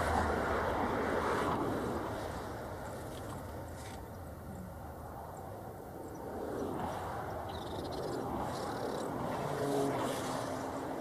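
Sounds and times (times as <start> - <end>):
distant vehicle traffic: 0.0 - 11.0.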